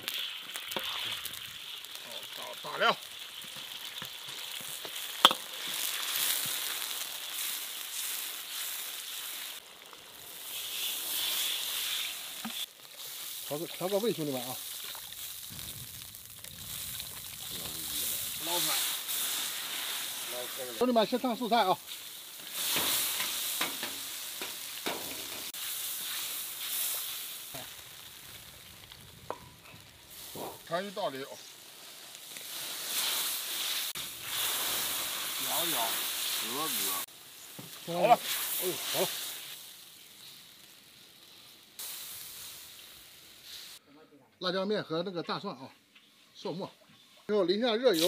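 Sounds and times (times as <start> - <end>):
broth boiling and bubbling: 0.0 - 43.8
oil sizzling in a wok: 0.0 - 43.8, 47.8 - 48.0.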